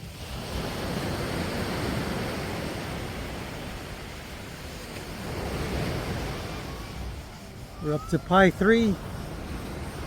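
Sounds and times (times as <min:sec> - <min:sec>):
sea surf washing onto beach: 0:00.0 - 0:10.0.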